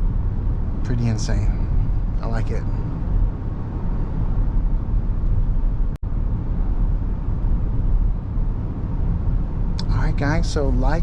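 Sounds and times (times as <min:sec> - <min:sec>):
road and tyre rumble inside car: 0:00.0 - 0:11.0.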